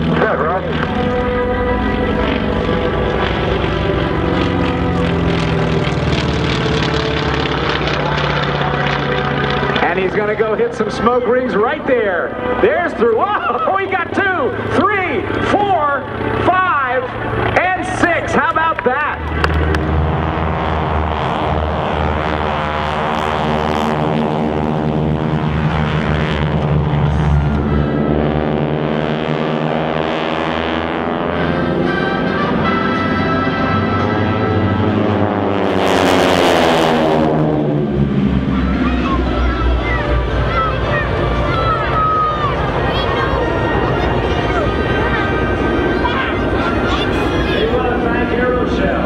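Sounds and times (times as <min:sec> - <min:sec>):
propeller plane engine drone: 0:00.0 - 0:49.0.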